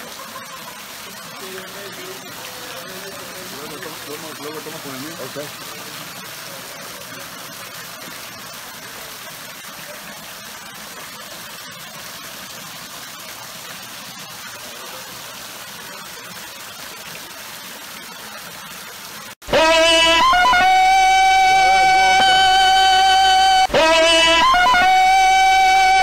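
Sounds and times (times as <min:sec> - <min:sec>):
water streams falling and splashing: 0:00.0 - 0:26.0.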